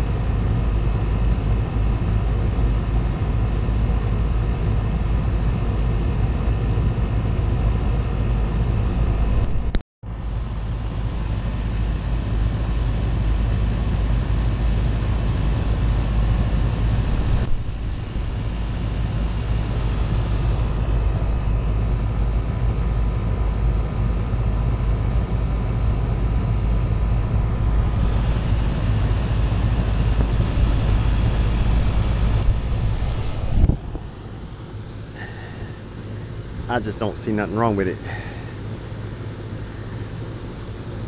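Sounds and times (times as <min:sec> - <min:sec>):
air conditioner unit humming: 0:00.0 - 0:41.0.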